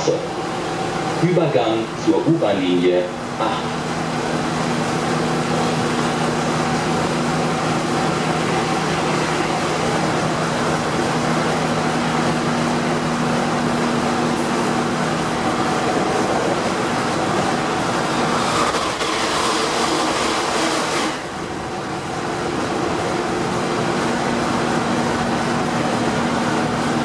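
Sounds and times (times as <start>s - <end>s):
train running noise: 0.0s - 27.0s.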